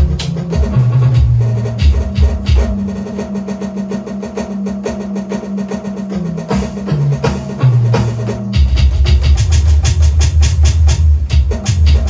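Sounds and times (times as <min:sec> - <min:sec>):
drums playing fast pattern: 0:00.0 - 0:12.0
music with low bass notes: 0:00.0 - 0:12.0.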